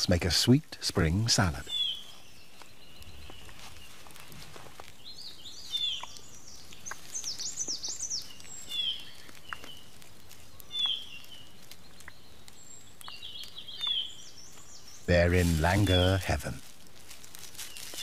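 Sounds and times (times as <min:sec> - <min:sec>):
steady background hiss: 0:00.0 - 0:18.0
birds chirping and whistling: 0:01.6 - 0:16.6.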